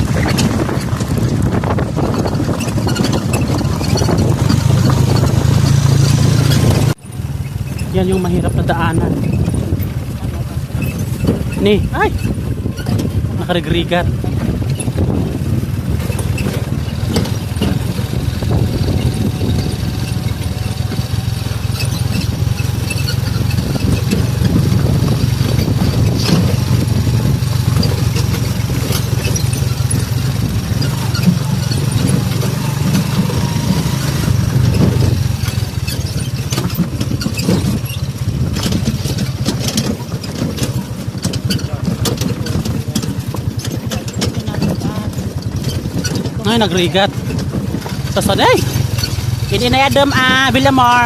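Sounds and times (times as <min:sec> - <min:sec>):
knocks and rattles from bumps: 0:00.0 - 0:51.0
motorcycle engine at low speed: 0:00.0 - 0:51.0.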